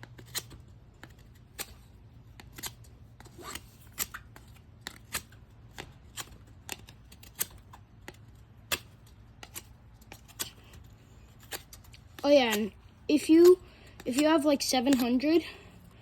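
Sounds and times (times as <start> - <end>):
knife whittling wood: 0.0 - 15.2.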